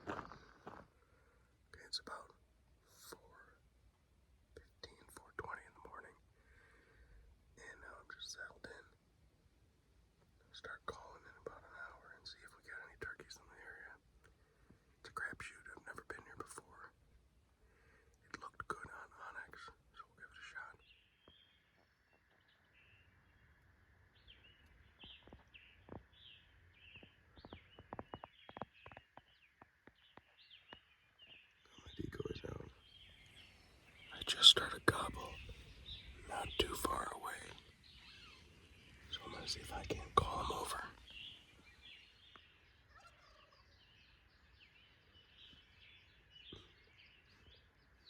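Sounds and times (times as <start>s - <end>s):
songbirds chirping: 0.0s - 48.0s
bird singing: 4.7s - 9.0s, 10.4s - 17.0s, 17.6s - 48.0s.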